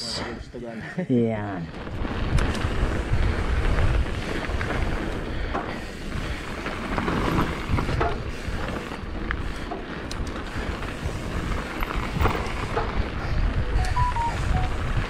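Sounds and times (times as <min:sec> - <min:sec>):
wind buffeting microphone: 0:01.7 - 0:15.0.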